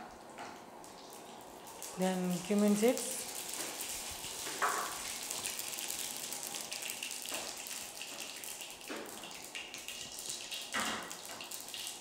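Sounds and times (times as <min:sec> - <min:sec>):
seeds sizzling in hot oil: 0:01.2 - 0:12.0.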